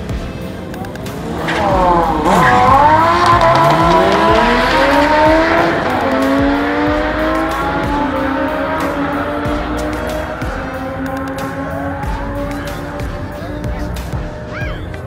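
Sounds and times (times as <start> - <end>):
car and motorcycle engines revving: 0.0 - 15.0.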